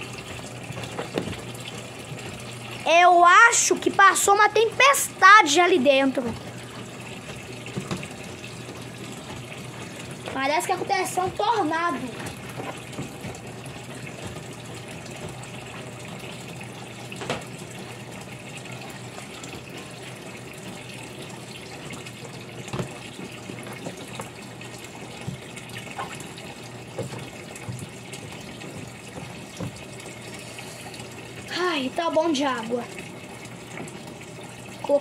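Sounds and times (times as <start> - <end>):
water running into washing machine: 0.0 - 35.0.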